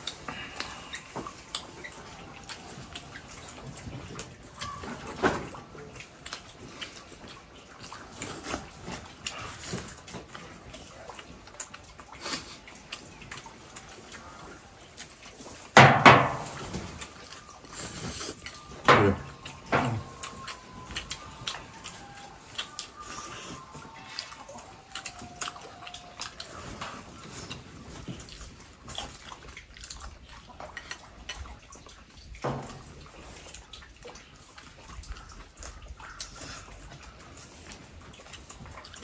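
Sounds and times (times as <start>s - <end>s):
chewing: 0.0s - 39.0s.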